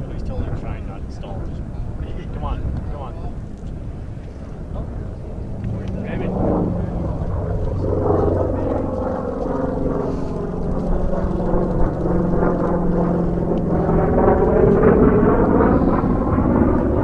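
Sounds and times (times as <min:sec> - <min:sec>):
aircraft engine drone passing: 0:00.0 - 0:17.0.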